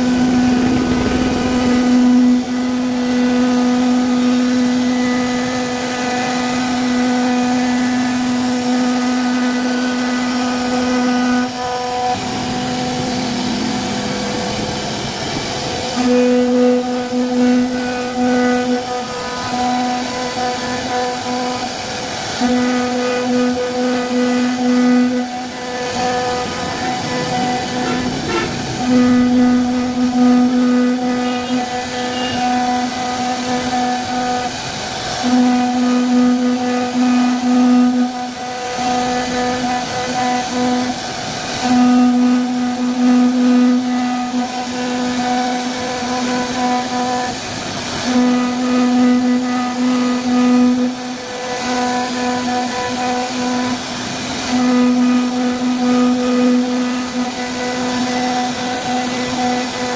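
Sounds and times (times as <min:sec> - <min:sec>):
router spindle whining: 0:00.0 - 0:59.9
rushing cutting noise: 0:00.0 - 0:59.9.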